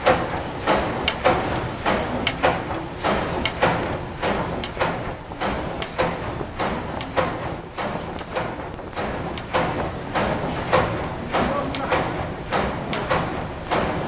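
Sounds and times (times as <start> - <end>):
steam engine clanking rhythmically: 0.0 - 14.0.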